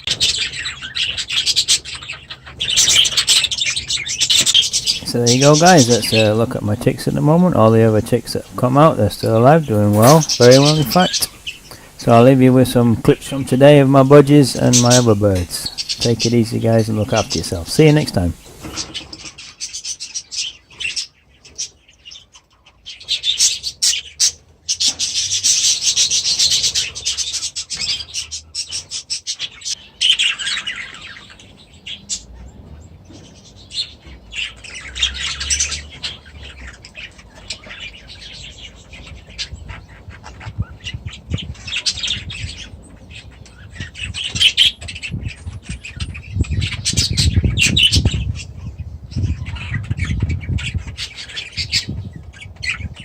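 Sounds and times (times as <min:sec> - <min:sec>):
birds chattering and chirping: 0:00.0 - 0:53.0.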